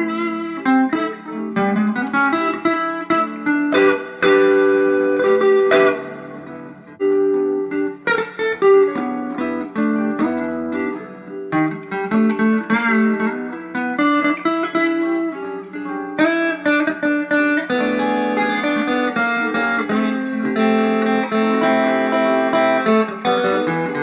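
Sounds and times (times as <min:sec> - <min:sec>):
electric guitar lead line: 0:00.0 - 0:24.0.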